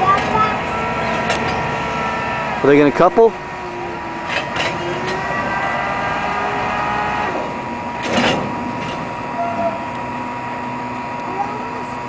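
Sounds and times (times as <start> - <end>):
crane mechanical whine: 0.0 - 12.0
steady hum: 0.0 - 12.0.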